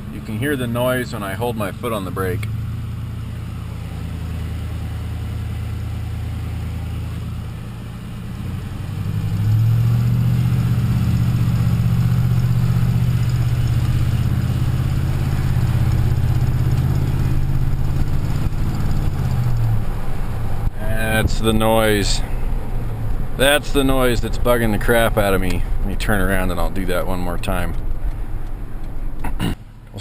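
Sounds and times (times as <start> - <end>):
rapid engine ticking: 0.0 - 30.0
truck engine revving under load: 0.0 - 30.0.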